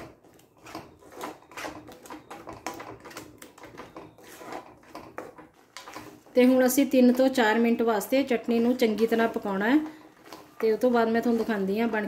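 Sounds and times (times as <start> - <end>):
wooden spatula scraping metal pan: 0.0 - 12.0.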